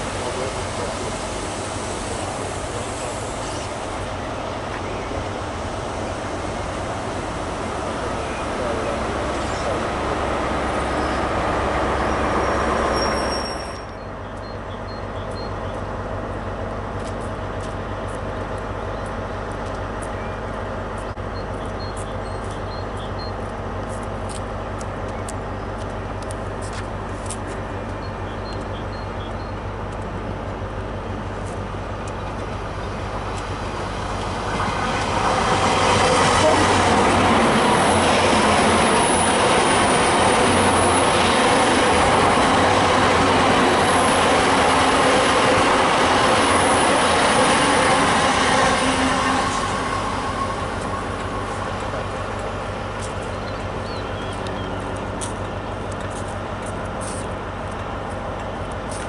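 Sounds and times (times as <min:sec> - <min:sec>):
diesel power car humming: 0:00.0 - 0:59.0
train coaches rolling on rails: 0:00.0 - 0:59.0
train passing with wheels rumbling: 0:00.0 - 0:59.0.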